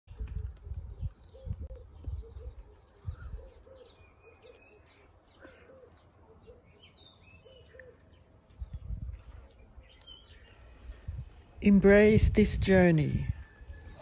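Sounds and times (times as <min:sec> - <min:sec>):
birds chirping and trilling: 0:00.1 - 0:14.0.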